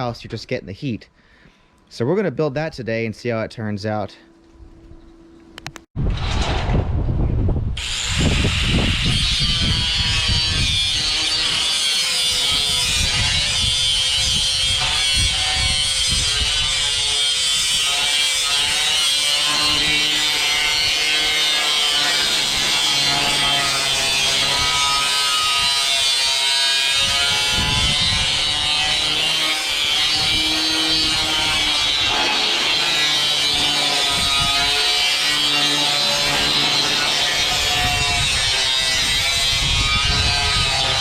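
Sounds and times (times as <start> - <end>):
power tool whining: 7.8 - 41.0.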